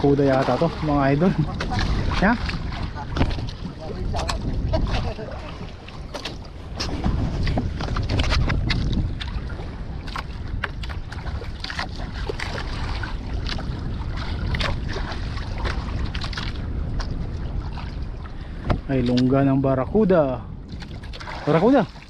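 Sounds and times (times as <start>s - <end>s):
waves slapping boat hull: 0.0s - 22.0s
wind buffeting microphone: 0.0s - 22.0s.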